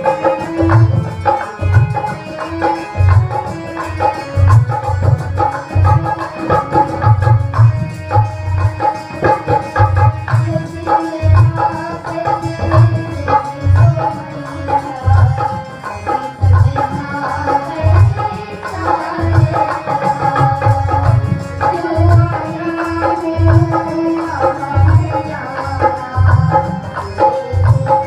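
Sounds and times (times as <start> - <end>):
harmonium melody: 0.0 - 28.0.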